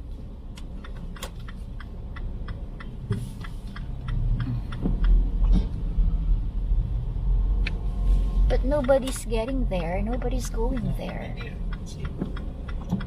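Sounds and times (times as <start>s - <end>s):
moving car rumble: 0.0s - 13.0s
car turn signal clicking: 0.1s - 6.6s, 7.4s - 13.0s.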